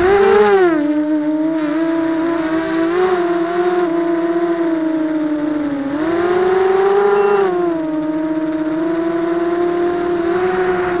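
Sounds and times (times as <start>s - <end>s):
quadcopter motors whining: 0.0s - 11.0s.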